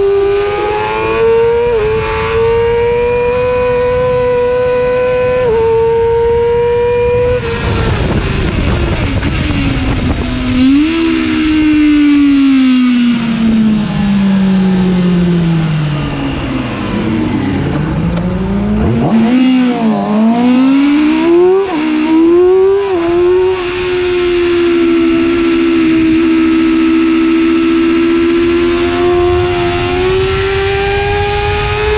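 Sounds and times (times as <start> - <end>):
motorcycle engine at racing speed: 0.0 - 31.9.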